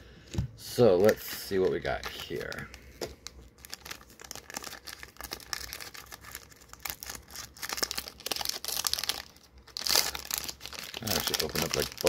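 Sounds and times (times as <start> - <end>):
foil wrapper crinkling and tearing: 0.8 - 12.0.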